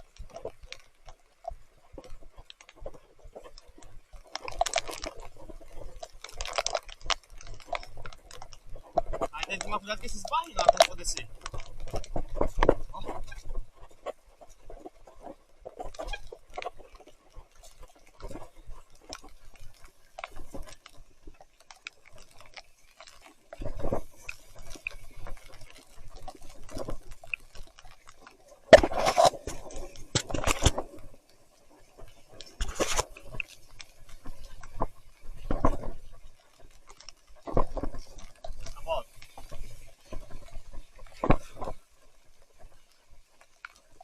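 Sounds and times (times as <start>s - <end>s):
mountain bike rattling on trail: 0.0s - 44.0s.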